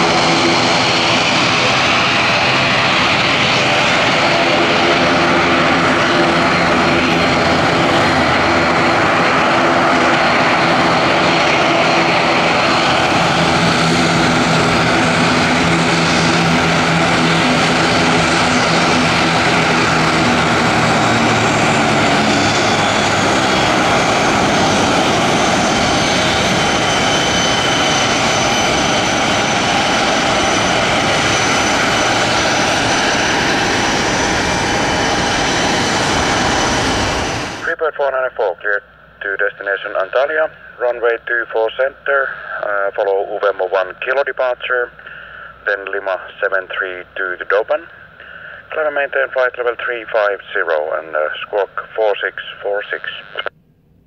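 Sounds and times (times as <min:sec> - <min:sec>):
airplane engines running: 0:00.0 - 0:54.0.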